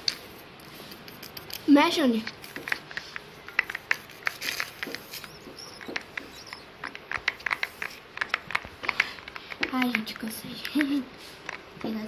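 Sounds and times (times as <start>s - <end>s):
sticky slime stirring: 0.0s - 12.0s.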